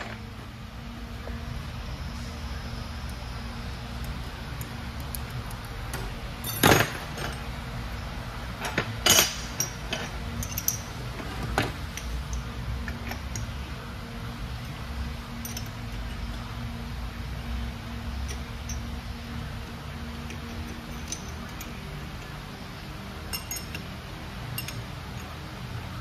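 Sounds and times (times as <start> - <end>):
steel parts clinking and clanking: 0.0 - 0.3, 2.9 - 13.8, 14.6 - 16.6, 18.0 - 26.0
low steady hum: 0.0 - 26.0.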